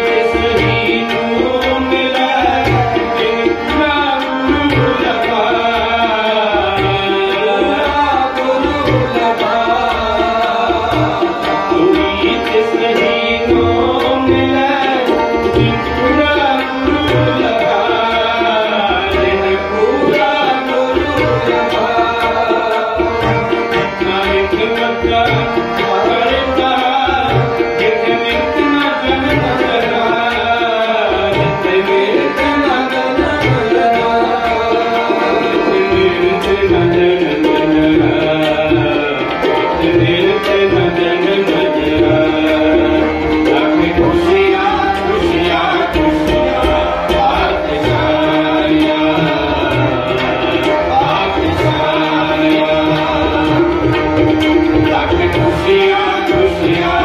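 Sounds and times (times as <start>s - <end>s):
harmonium drone: 0.0s - 57.0s
person singing: 0.0s - 57.0s.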